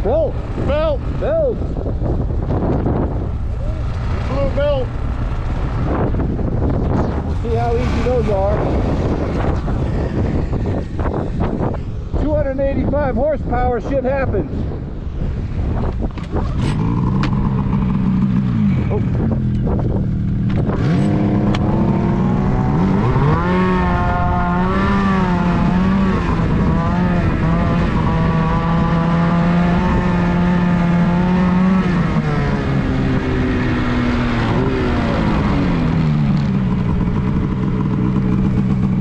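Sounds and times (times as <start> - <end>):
snowmobile engine: 0.0 - 14.2, 15.8 - 39.0.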